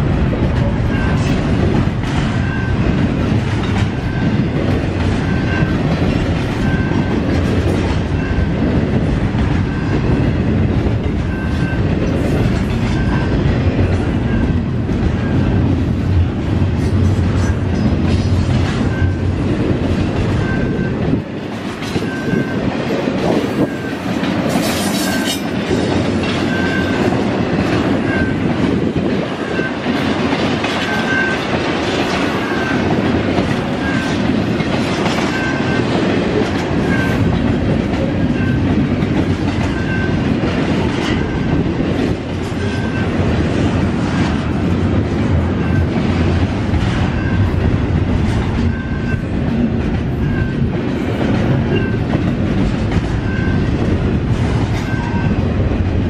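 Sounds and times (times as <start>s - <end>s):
train wheels clicking on rails: 0.0s - 56.0s
wind rumbling on microphone: 0.0s - 56.0s.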